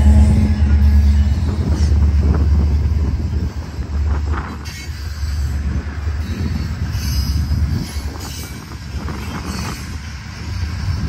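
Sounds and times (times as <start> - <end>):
rumble of wheels on rail: 0.0 - 11.0.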